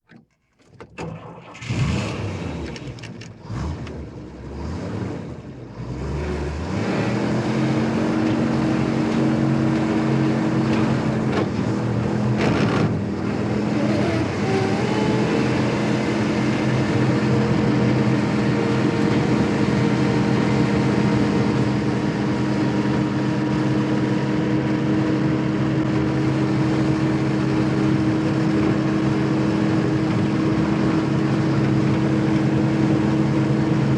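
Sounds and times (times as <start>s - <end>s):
truck engine starting and running: 0.0s - 33.9s.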